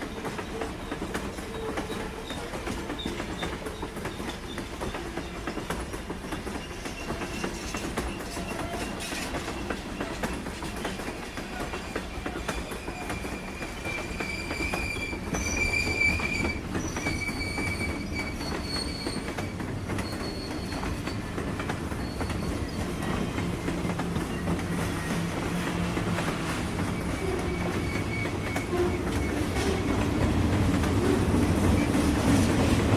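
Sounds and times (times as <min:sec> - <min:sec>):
train wheel squeal: 0:00.0 - 0:32.8
train rumble: 0:00.0 - 0:32.9
train wheels clacking on rails: 0:00.0 - 0:32.9.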